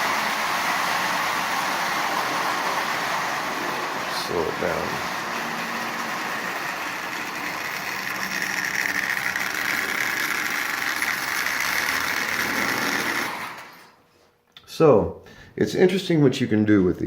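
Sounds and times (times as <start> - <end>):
toy train whirring rattle: 0.0 - 14.0.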